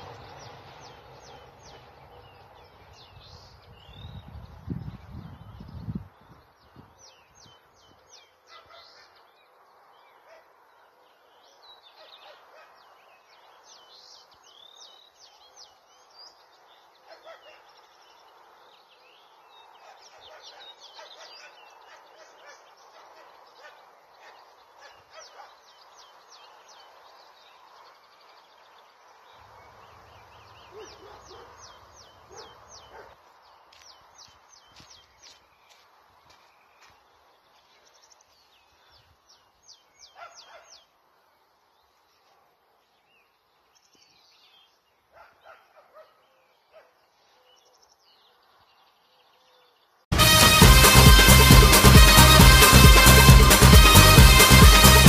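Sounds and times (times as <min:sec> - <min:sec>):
songbirds singing: 0:00.0 - 0:50.1.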